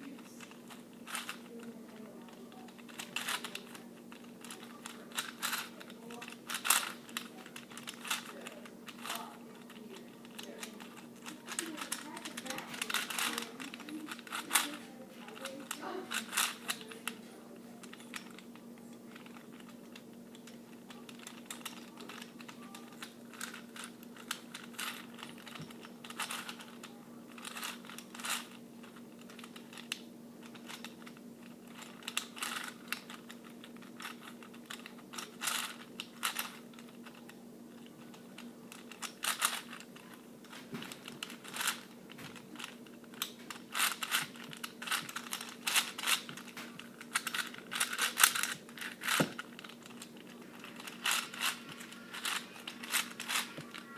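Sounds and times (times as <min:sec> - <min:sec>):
faint steady hum: 0:00.0 - 0:53.9
plastic puzzle clicking: 0:00.2 - 0:17.2, 0:17.8 - 0:53.9.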